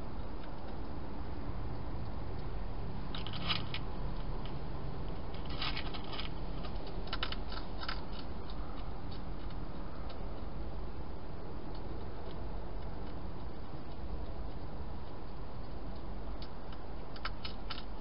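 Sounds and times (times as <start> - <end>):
hedgehog crunching food: 3.0 - 18.0.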